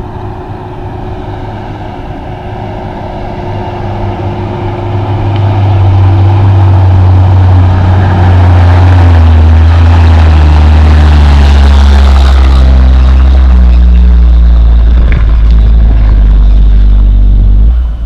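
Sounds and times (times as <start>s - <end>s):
diesel truck driving past: 0.0s - 18.0s.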